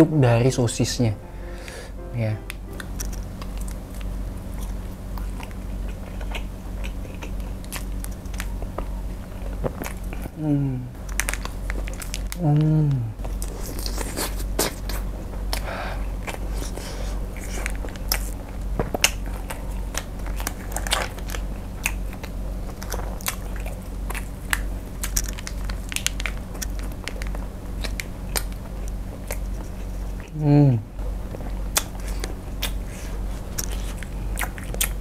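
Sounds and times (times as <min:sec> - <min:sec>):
sausage being bitten and chewed: 0:01.4 - 0:10.4, 0:11.0 - 0:30.4, 0:31.1 - 0:35.0.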